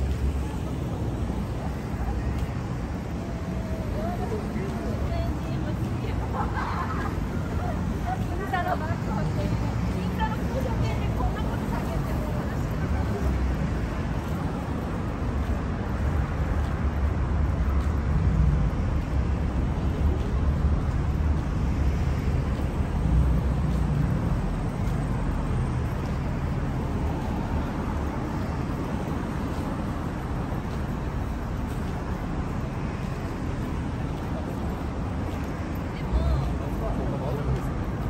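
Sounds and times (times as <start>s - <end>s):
cars driving past: 0.0s - 38.0s.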